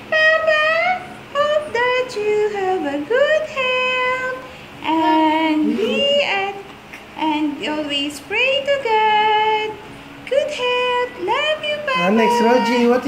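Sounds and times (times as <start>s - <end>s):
woman and children singing: 0.0s - 13.0s.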